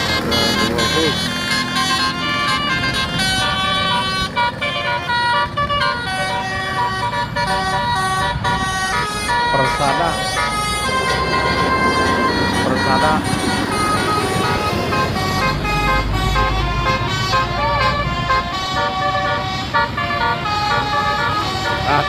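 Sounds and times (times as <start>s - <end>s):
multi-tone bus horn tune: 0.0s - 22.0s.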